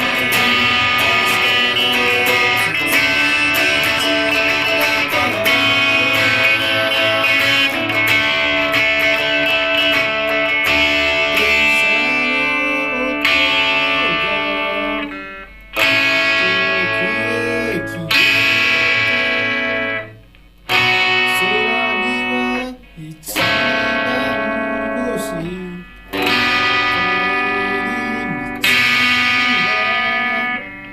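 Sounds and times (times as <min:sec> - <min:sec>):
person singing: 0:00.0 - 0:15.2, 0:15.8 - 0:20.0, 0:20.8 - 0:30.9
guitar strumming chords: 0:00.0 - 0:30.9.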